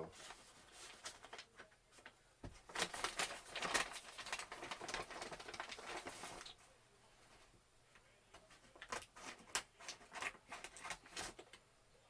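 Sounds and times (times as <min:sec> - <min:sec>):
packaging rustling and crinkling: 0:00.0 - 0:06.6, 0:08.5 - 0:11.6.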